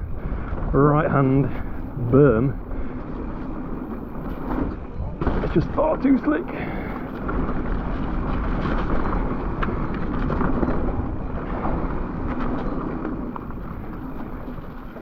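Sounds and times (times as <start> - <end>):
bike clicks and rattles: 0.0 - 15.0
bike tyres rolling on mud: 0.0 - 15.0.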